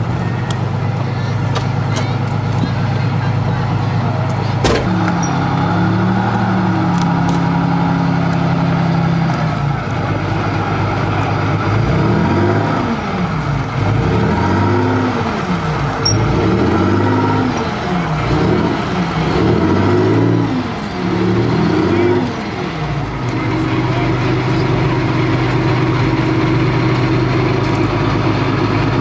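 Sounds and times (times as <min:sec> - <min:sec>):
tracked vehicle engine running: 0:00.0 - 0:29.0.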